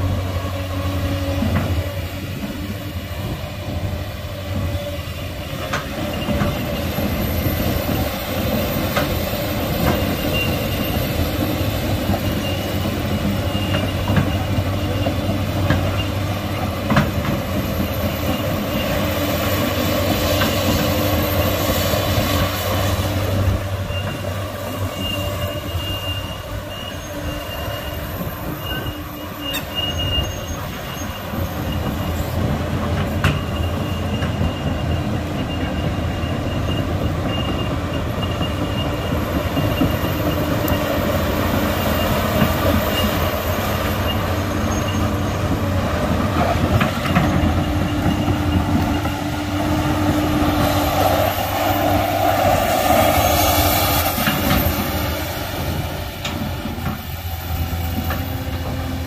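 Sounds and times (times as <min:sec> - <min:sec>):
excavator diesel engine running: 0:00.0 - 0:59.0
thin high squeals: 0:04.7 - 0:16.4, 0:17.4 - 0:32.6, 0:33.2 - 0:45.6, 0:46.8 - 0:58.9.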